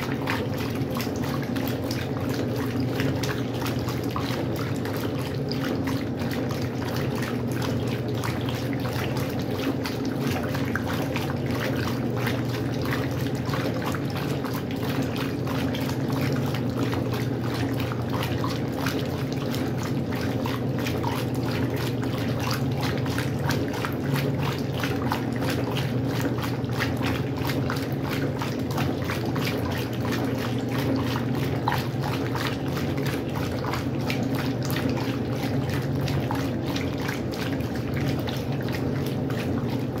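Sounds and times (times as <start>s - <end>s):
washing machine hum: 0.0s - 40.0s
water splashing in washing machine: 0.0s - 40.0s.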